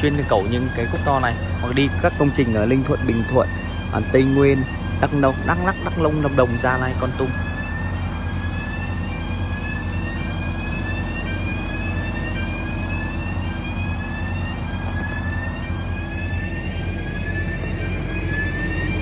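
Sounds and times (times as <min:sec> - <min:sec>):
diesel engine droning: 0:00.0 - 0:19.0
rising electronic warning tone: 0:00.0 - 0:19.0.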